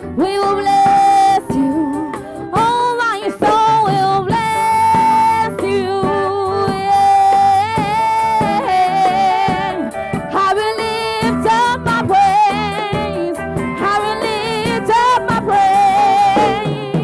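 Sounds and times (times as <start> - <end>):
bass guitar: 0.0 - 17.0
electric guitar: 0.0 - 17.0.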